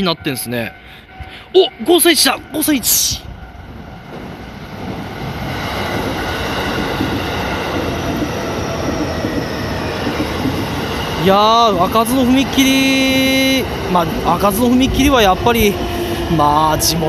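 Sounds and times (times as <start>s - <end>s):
electric train running past: 0.0s - 17.0s.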